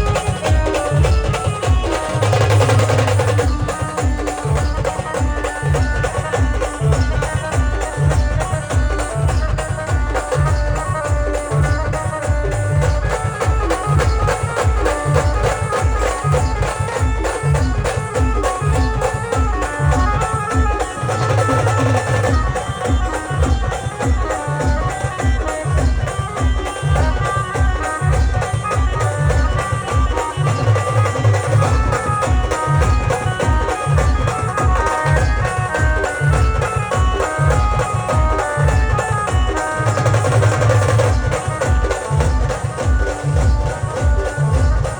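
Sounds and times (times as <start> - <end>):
heavy drumbeat: 0.0 - 44.9
wedding band melody: 0.0 - 44.9.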